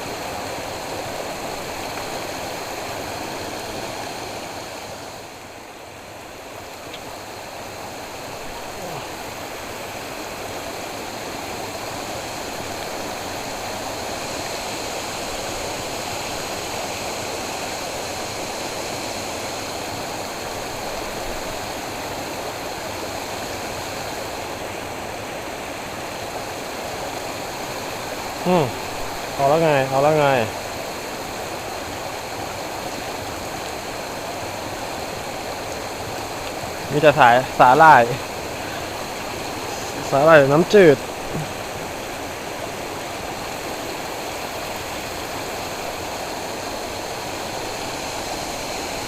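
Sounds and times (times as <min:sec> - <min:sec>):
flowing water rushing: 0:00.0 - 0:49.0.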